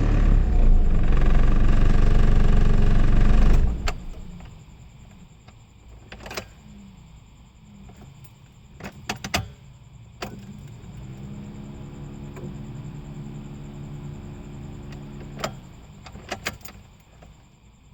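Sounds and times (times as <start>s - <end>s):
car engine rumbling: 0.0s - 9.1s, 10.0s - 17.5s.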